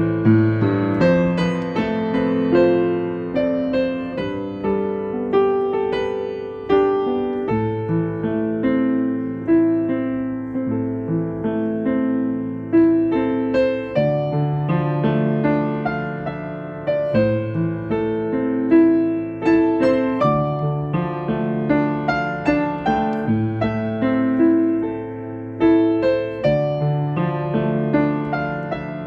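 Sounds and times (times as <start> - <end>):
solo piano melody: 0.0 - 29.0.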